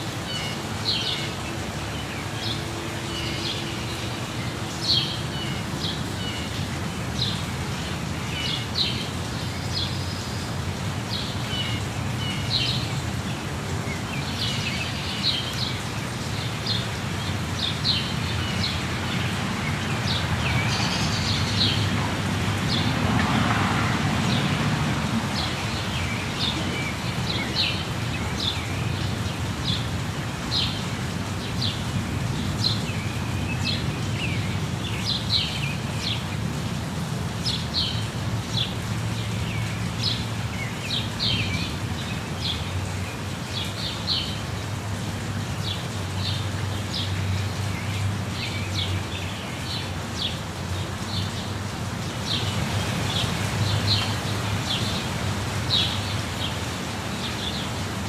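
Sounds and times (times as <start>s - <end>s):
falling water rushing: 0.0s - 58.0s
birds chirping: 0.1s - 36.5s, 45.6s - 58.0s.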